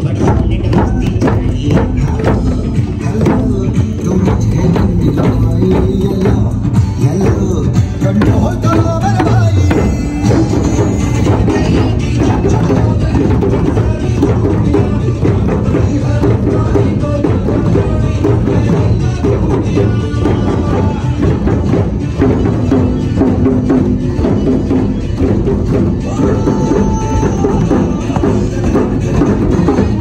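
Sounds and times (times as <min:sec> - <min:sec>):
hand drums playing together: 0:00.0 - 0:30.0.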